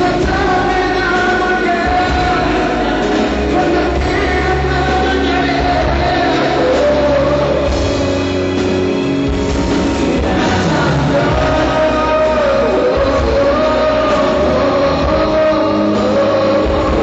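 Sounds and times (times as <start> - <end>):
loud rock band with heavy bass: 0.0 - 17.0.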